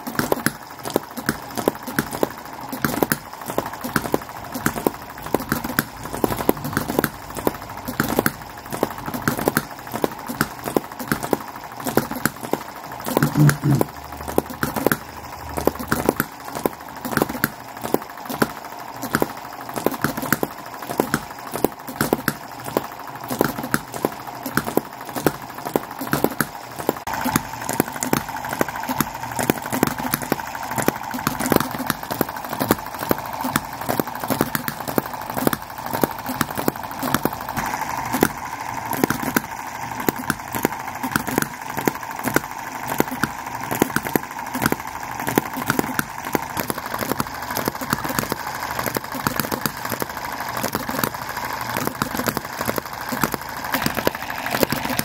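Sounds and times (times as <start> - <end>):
steady mechanical whir: 0.0 - 55.0.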